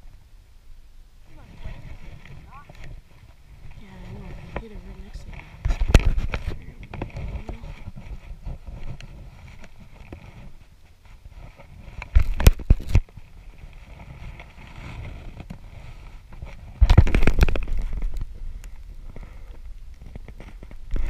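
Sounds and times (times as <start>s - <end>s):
low rumble of wind and water: 0.0s - 21.0s.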